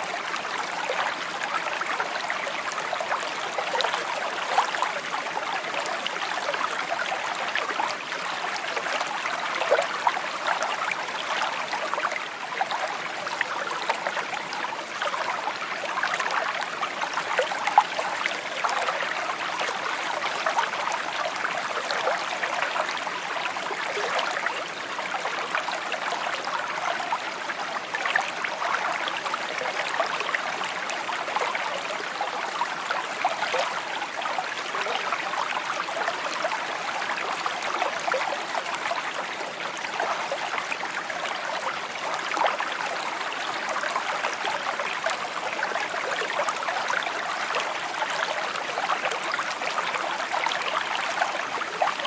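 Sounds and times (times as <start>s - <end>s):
stream babbling over stones: 0.0s - 52.0s.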